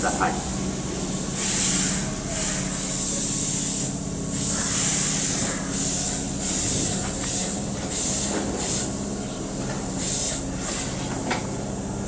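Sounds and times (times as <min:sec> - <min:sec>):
electric train low hum: 0:00.0 - 0:12.0.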